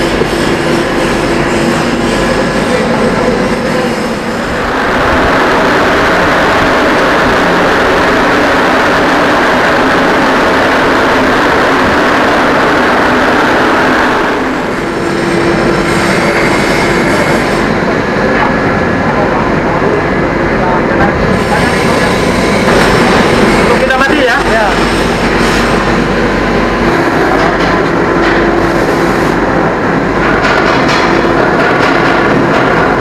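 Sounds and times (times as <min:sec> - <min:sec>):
ventilation fan air rush: 0:00.0 - 0:33.0.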